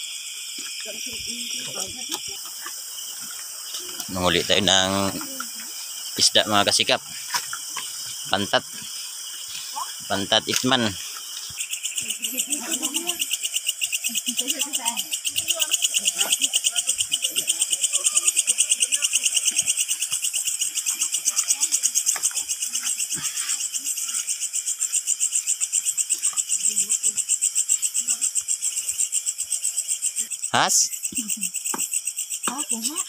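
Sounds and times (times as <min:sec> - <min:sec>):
night insects chirping: 0:00.0 - 0:33.0.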